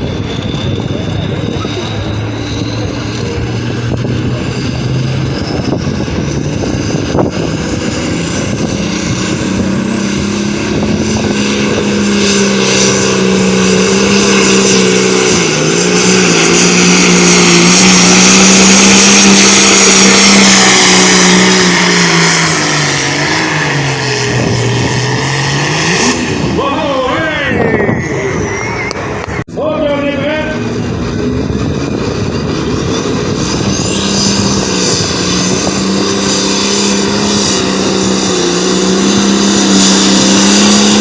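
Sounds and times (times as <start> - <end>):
tractor engine revving under load: 0.0 - 29.5, 30.1 - 41.0.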